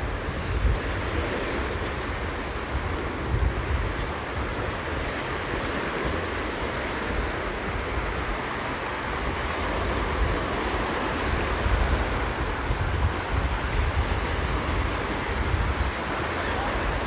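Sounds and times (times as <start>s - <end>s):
small waves washing ashore: 0.0s - 17.0s
wind gusting on microphone: 0.0s - 17.0s.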